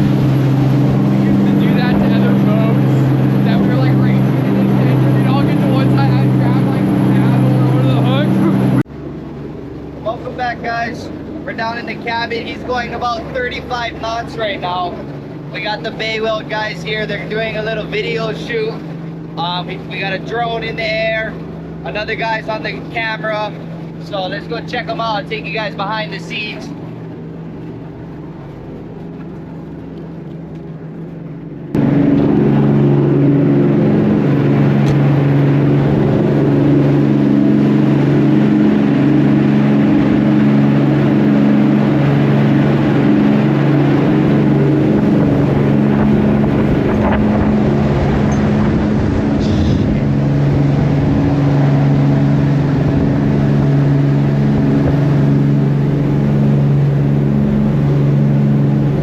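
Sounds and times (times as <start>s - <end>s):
boat engines droning: 0.0s - 59.0s.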